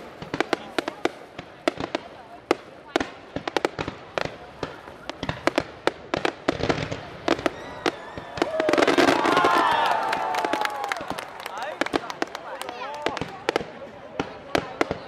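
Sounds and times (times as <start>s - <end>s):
fireworks bangs and pops: 0.0s - 15.0s
onlookers' voices: 0.0s - 15.0s.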